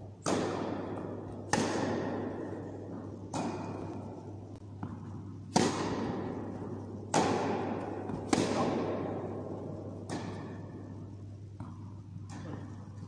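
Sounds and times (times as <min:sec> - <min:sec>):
tennis ball hits and bounces: 0:00.2 - 0:12.9.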